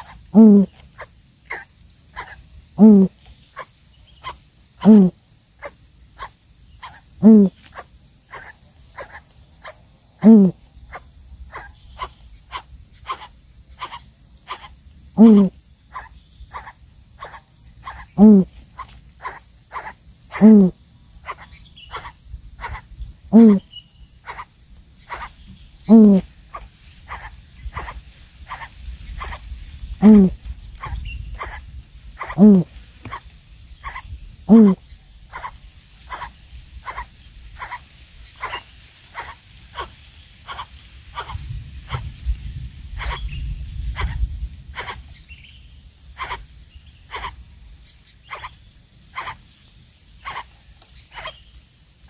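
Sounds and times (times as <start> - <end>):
quick ticking bird calls: 0.0 - 42.1, 43.0 - 44.2, 44.8 - 45.3, 46.2 - 46.4, 47.1 - 47.4, 48.2 - 49.4, 50.2 - 51.6
coucals giving deep calls: 0.0 - 45.4, 46.0 - 49.5, 50.2 - 51.6
cricket trill: 0.0 - 52.0.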